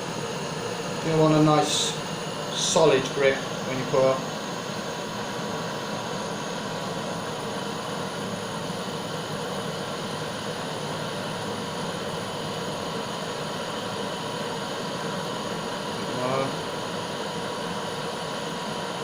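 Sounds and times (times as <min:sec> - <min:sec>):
blowtorch flame hissing: 0:00.0 - 0:19.0.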